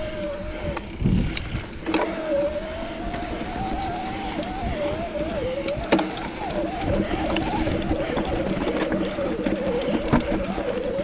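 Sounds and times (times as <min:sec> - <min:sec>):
electric bike motor whining: 0:00.0 - 0:11.0
wind rumble on microphone: 0:00.0 - 0:11.0.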